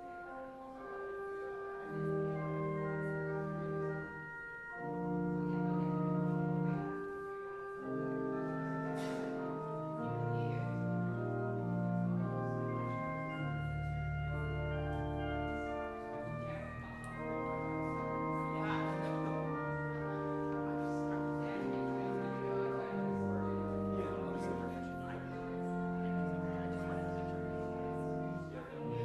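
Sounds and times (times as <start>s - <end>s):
organ chords over deep bass: 0.0s - 29.0s.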